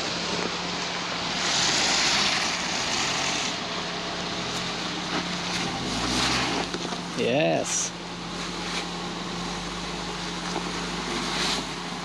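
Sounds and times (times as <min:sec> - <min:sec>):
vehicle engine under load: 0:00.0 - 0:12.0.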